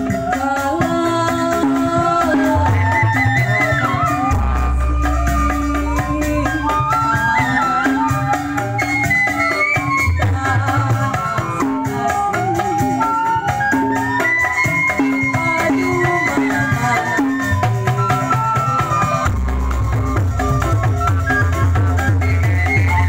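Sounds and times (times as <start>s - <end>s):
live ensemble music: 0.0s - 23.0s.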